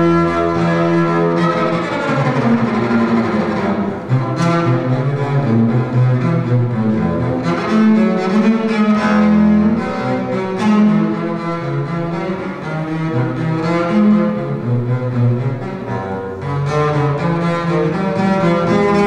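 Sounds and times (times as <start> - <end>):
bowed double bass melody: 0.0 - 19.0.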